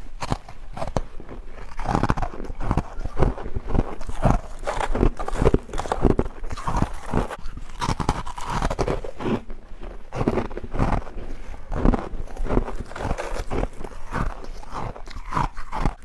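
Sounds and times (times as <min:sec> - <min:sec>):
crunching and chewing frost: 0:00.0 - 0:16.0.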